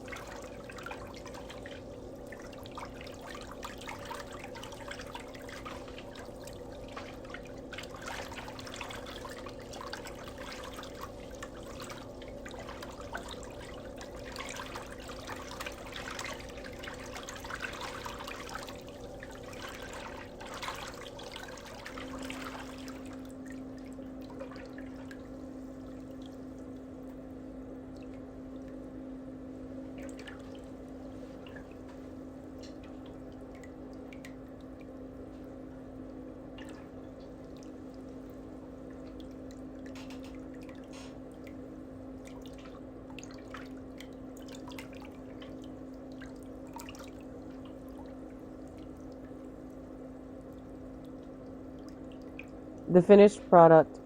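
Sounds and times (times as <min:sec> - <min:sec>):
water trickling and dripping: 0:00.0 - 0:53.2
steady low hum: 0:00.0 - 0:54.0.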